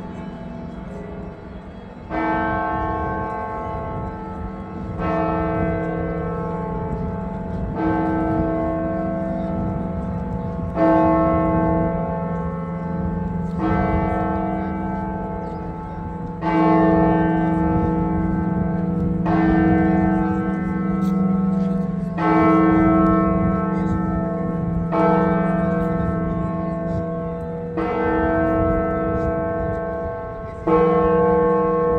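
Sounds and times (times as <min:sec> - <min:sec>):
church bell strokes: 0:02.1 - 0:31.9.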